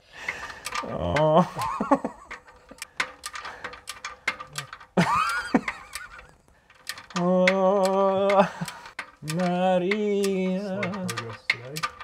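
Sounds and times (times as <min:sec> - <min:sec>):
wrench ratchet clicks: 0:02.3 - 0:12.0.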